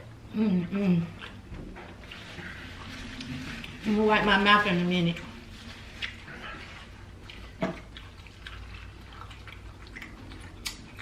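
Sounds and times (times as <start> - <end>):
wet chewing and smacking: 1.0 - 11.0.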